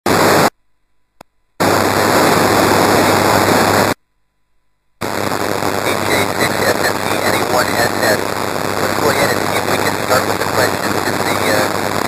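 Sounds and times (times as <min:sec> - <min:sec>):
radio static hiss: 0:00.1 - 0:00.6, 0:01.6 - 0:04.0, 0:05.0 - 0:12.0.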